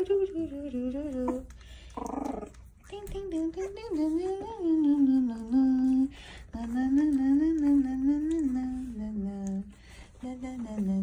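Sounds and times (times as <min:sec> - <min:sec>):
woman humming softly: 0:00.0 - 0:11.0.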